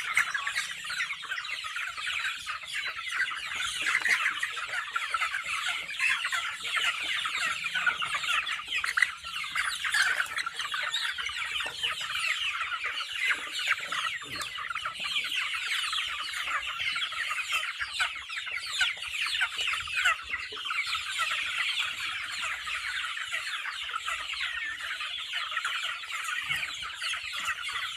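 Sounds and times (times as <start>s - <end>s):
chickens calling: 0.0s - 27.9s.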